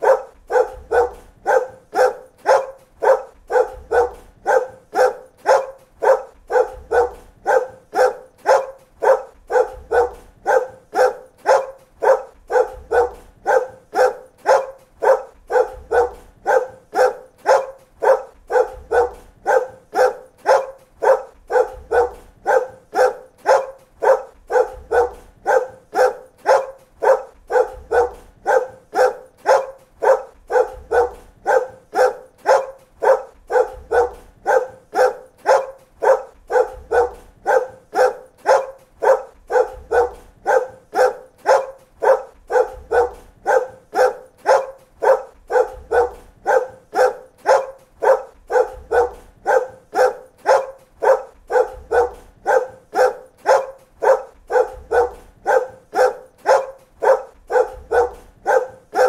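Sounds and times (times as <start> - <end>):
dog barking: 0.0 - 59.0.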